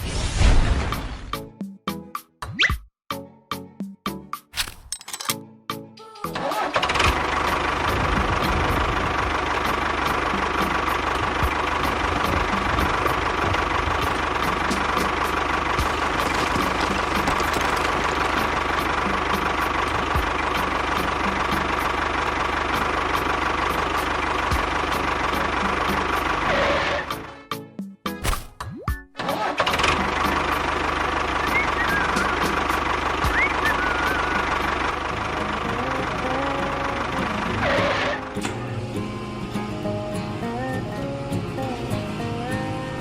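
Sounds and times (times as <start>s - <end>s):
small engine running: 6.4s - 27.3s, 29.2s - 43.0s.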